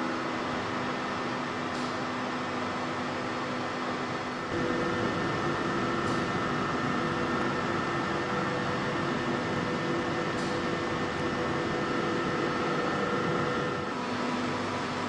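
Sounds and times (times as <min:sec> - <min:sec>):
machinery humming and whirring: 0:00.0 - 0:15.0.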